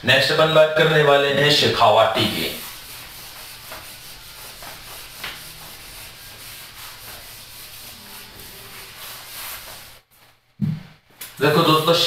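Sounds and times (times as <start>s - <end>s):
duster scrubbing a whiteboard: 0.2s - 10.4s, 11.4s - 12.0s.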